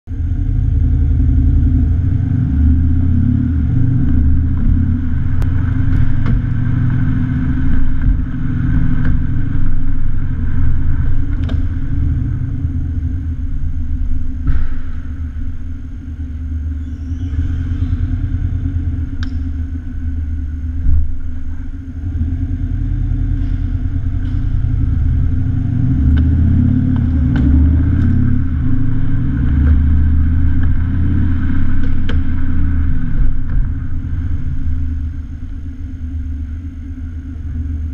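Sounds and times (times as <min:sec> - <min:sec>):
car exhaust deep rumble: 0:00.0 - 0:37.9.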